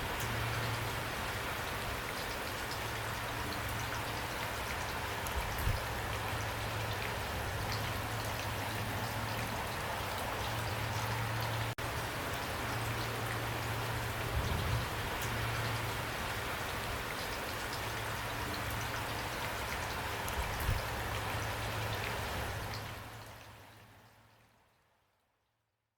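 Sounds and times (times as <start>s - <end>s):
steady rainfall: 0.0s - 24.8s.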